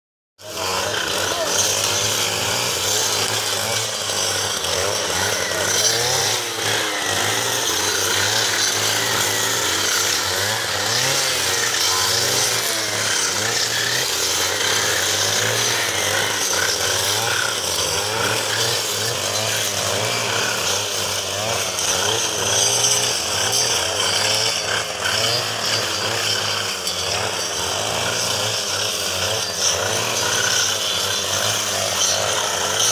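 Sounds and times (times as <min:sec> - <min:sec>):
brush cutter engine running: 0:00.4 - 0:32.9.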